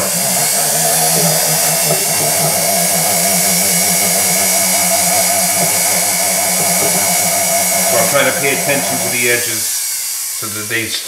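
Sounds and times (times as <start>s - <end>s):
rotary tool sanding metal: 0.0s - 11.0s.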